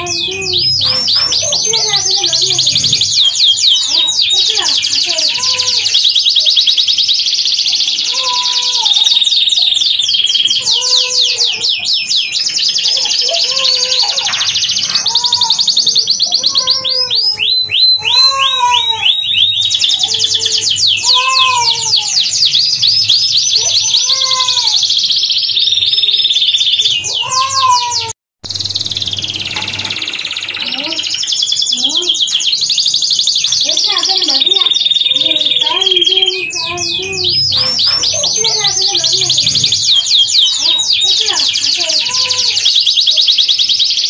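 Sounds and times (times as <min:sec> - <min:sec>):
canary singing trills: 0:00.0 - 0:44.0.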